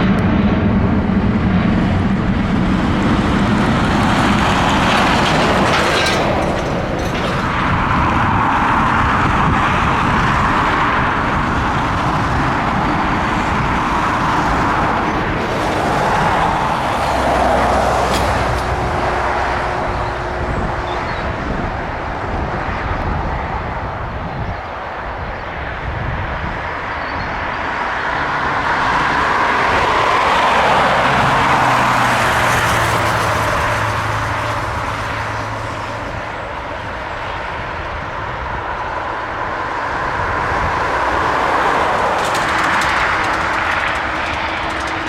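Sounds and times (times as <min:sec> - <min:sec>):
jet engines rushing: 0:00.0 - 0:45.0.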